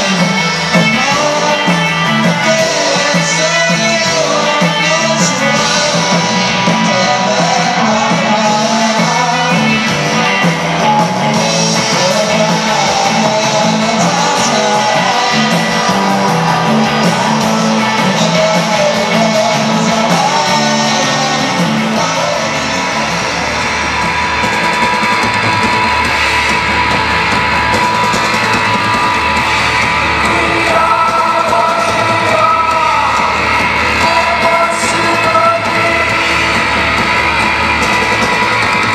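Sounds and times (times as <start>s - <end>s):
person singing: 0.0s - 26.2s, 26.9s - 38.9s
live rock band playing: 0.0s - 38.9s.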